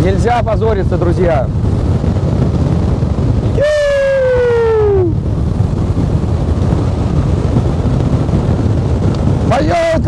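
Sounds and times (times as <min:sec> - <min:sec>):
wind rumble over microphone: 0:00.0 - 0:10.0.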